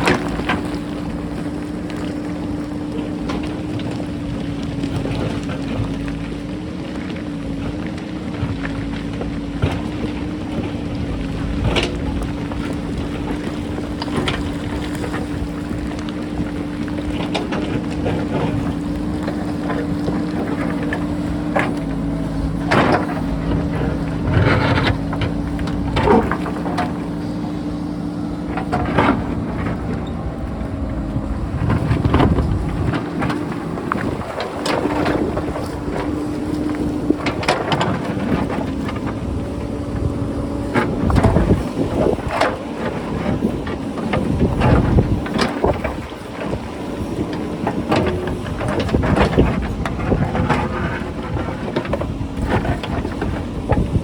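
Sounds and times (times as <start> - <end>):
diesel engine running under load: 0.0 - 54.0
wind on microphone: 9.6 - 54.0.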